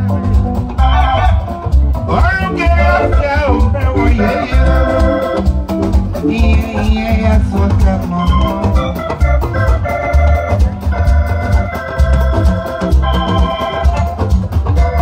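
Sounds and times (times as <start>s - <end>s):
electronic keyboard organ chords: 0.0s - 15.0s
highlife band music: 0.0s - 15.0s.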